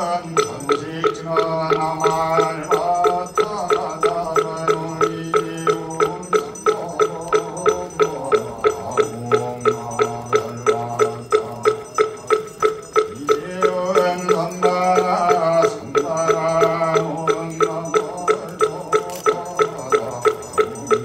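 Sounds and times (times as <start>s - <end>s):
monks chanting in low voices: 0.0s - 21.0s
wooden fish beat: 0.0s - 21.0s.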